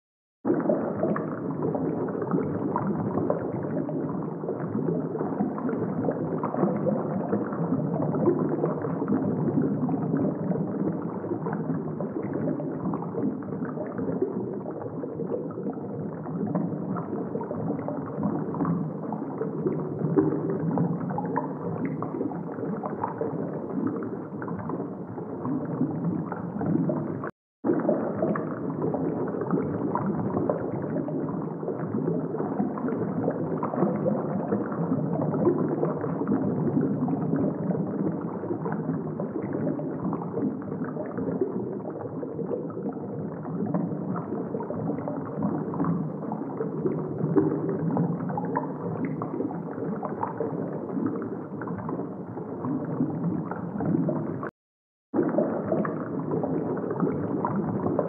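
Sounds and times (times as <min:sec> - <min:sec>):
muffled underwater churning water: 0:00.5 - 0:54.5, 0:55.2 - 0:58.0.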